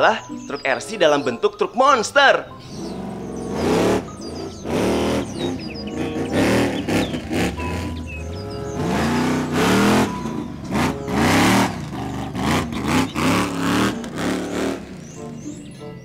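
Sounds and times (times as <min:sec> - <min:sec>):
monster truck engine revving: 0:02.6 - 0:15.6.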